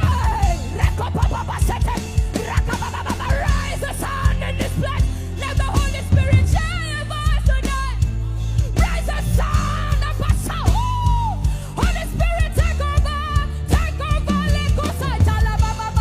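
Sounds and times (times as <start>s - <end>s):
worship music with drums and bass: 0.0s - 16.0s.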